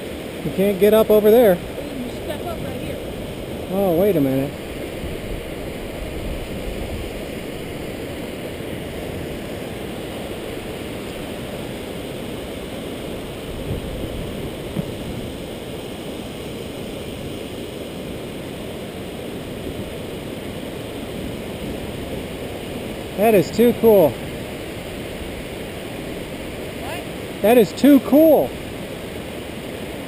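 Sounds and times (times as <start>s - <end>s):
water rushing over dam spillway: 0.0s - 30.0s.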